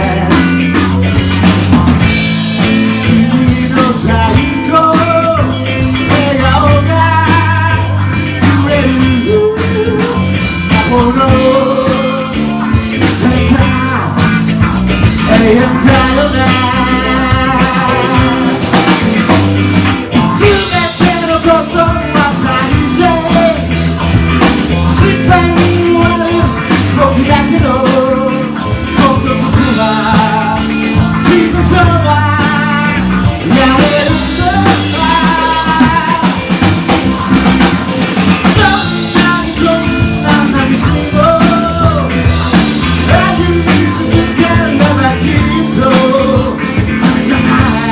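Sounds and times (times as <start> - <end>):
person singing: 0.0 - 1.1, 2.0 - 14.5, 15.1 - 19.4, 20.1 - 47.9
bass guitar: 0.0 - 47.9
drums: 0.0 - 47.9
electric guitar: 0.0 - 47.9.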